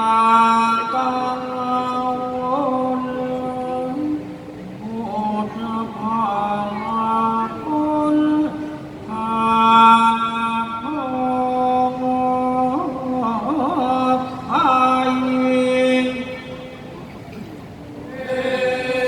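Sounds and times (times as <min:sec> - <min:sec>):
person chanting long held notes: 0:00.0 - 0:19.0.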